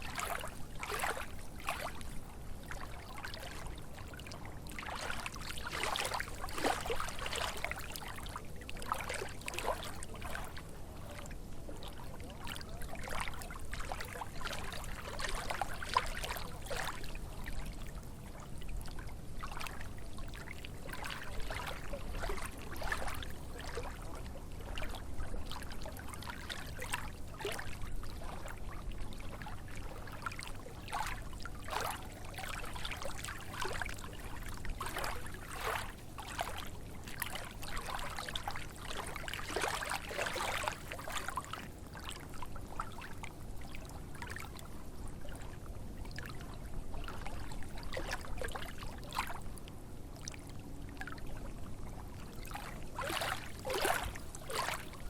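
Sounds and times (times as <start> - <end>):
small waves lapping: 0.0 - 55.0.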